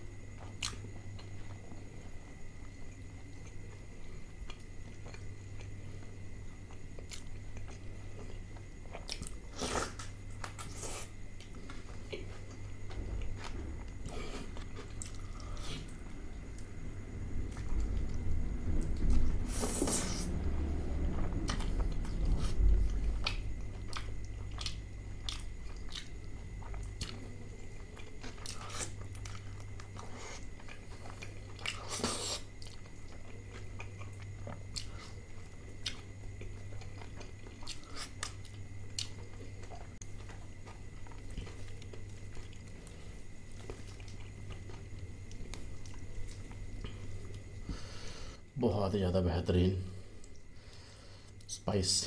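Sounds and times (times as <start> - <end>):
steady low hum: 0.0 - 52.0
man chewing food: 0.2 - 48.4.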